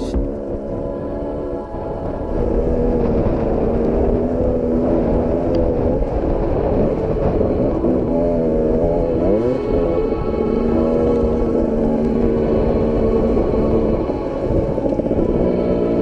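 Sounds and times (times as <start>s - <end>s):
low rumble: 0.0s - 16.0s
dirt bike engine revving: 2.4s - 16.0s.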